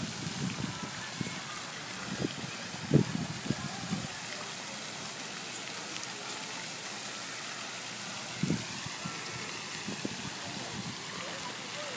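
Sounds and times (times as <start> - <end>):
fountain water splashing: 0.0 - 11.9.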